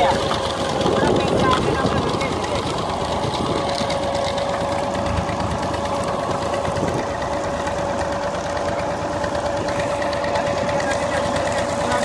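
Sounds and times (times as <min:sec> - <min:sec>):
steady mechanical whine: 0:00.0 - 0:12.0
tractor engine running: 0:00.0 - 0:12.0.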